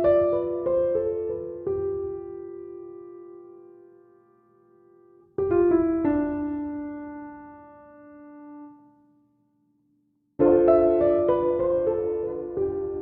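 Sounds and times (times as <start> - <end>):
slow piano chords: 0.0 - 9.1, 10.4 - 13.0.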